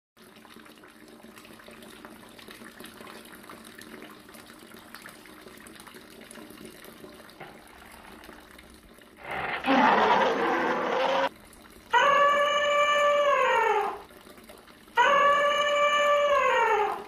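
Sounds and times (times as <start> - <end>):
running water gushing: 0.3 - 17.0.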